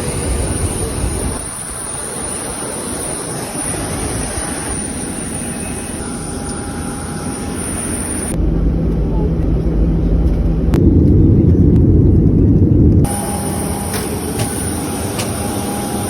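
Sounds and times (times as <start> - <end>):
jet engine and airflow rush: 0.0 - 16.0
thin high whine: 1.4 - 16.0.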